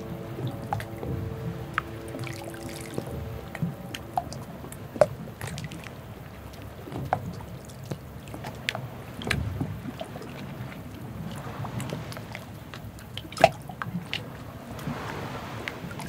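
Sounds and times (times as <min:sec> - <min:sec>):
low rumble: 0:00.0 - 0:13.1
ship's horn: 0:00.0 - 0:16.0
water lapping and sloshing: 0:00.0 - 0:16.0.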